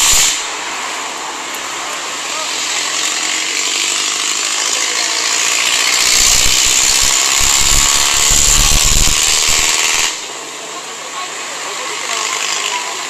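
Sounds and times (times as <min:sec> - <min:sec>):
motorcycle engines running: 0:00.0 - 0:13.0
steady hiss: 0:00.0 - 0:13.0.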